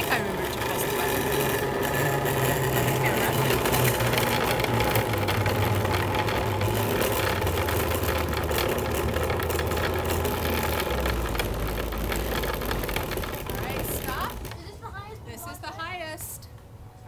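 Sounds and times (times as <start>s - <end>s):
engine humming: 0.0s - 16.9s.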